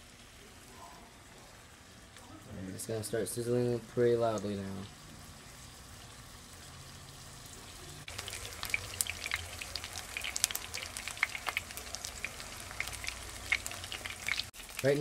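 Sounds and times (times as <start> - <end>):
meat sizzling in hot oil: 2.7 - 15.0.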